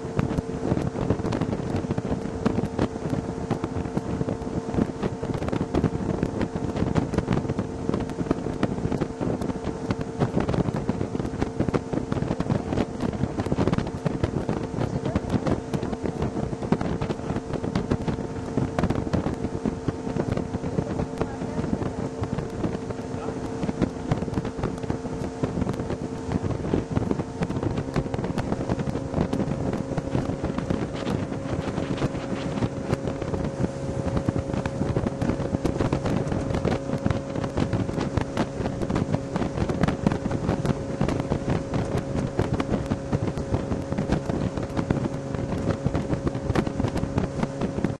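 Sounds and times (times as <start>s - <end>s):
motorboat engine running: 0.0s - 48.0s
wind buffeting microphone: 0.0s - 48.0s.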